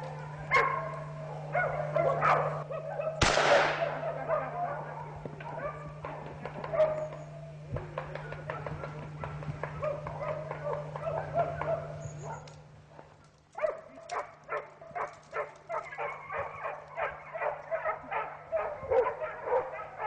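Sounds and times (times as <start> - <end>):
hounds baying and barking: 0.0 - 20.0.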